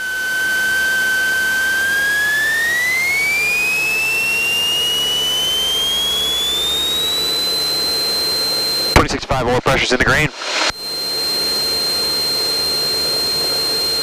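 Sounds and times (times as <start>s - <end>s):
high rising whine: 0.0s - 14.0s.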